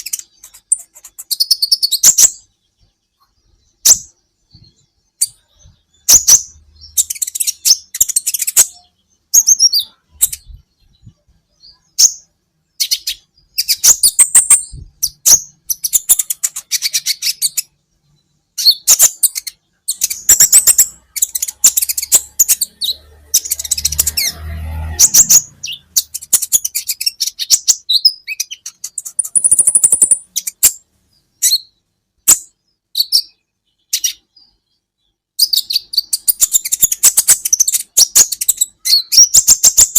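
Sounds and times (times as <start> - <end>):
sunbird chirping and twittering: 0.0 - 39.9.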